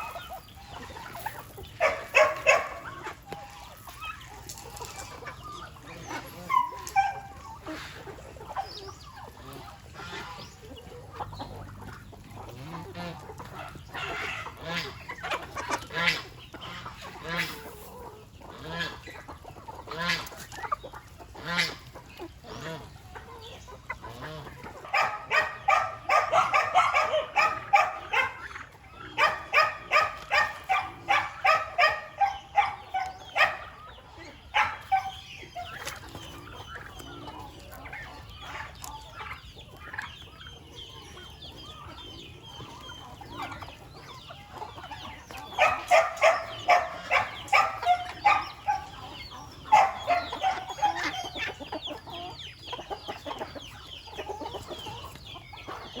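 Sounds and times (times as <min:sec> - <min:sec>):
poultry calling: 0:00.0 - 0:56.0.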